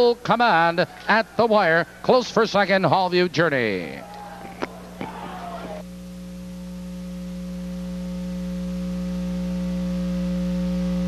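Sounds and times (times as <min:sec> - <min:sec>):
deep steady hum: 0:00.0 - 0:11.0.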